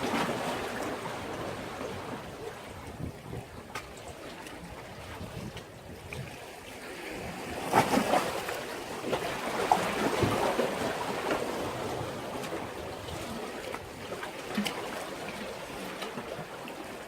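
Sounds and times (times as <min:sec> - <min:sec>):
sea waves splashing on breakwater: 0:00.0 - 0:17.0.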